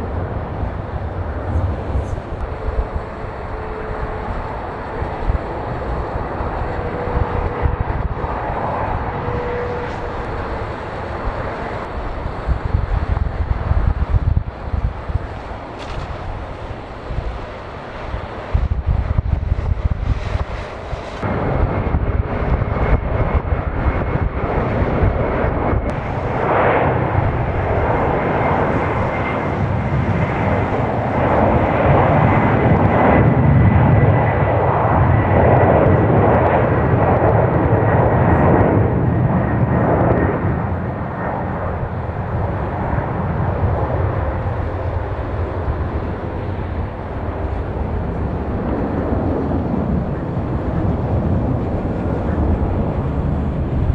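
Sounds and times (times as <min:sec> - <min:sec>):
high engine whine: 0:00.0 - 0:53.9
jet engines roaring: 0:00.0 - 0:53.9.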